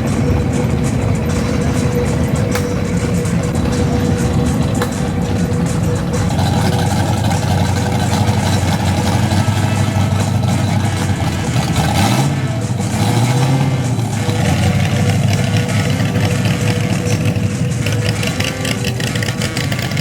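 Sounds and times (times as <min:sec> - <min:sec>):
car engine running and revving: 0:00.0 - 0:20.0.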